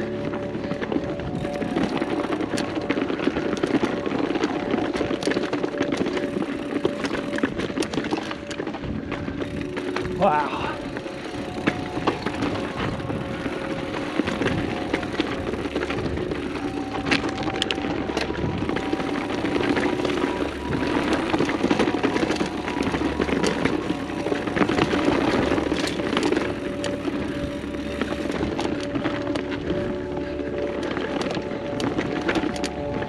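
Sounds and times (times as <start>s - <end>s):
bike rattling over rough ground: 0.0s - 33.0s
steady buzzing hum: 0.0s - 33.0s.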